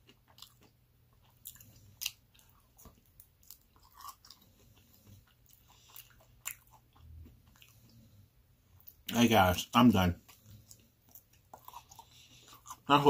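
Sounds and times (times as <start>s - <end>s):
person chewing food: 0.0s - 9.1s, 10.2s - 13.0s.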